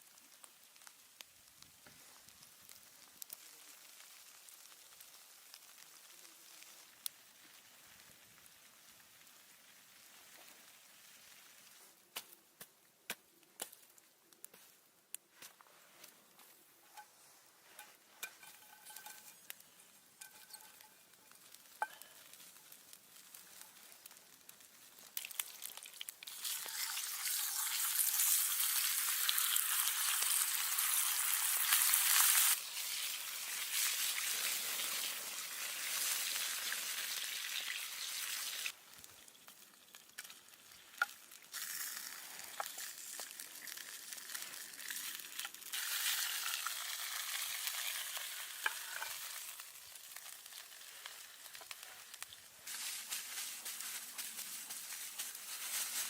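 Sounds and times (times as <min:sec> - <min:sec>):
food sizzling in a pan: 0:00.0 - 0:12.0, 0:16.8 - 0:56.0.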